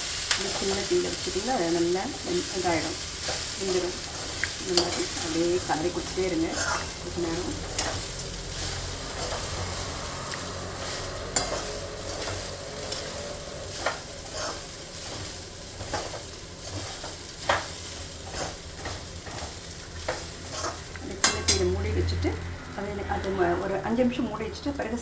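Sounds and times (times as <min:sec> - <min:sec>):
low sizzle: 0:00.0 - 0:25.0
spatula scraping a pan: 0:00.1 - 0:21.7.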